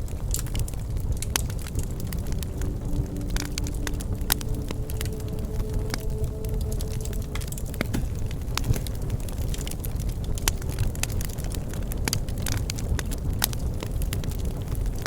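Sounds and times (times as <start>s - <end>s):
low rumble of flames: 0.0s - 15.0s.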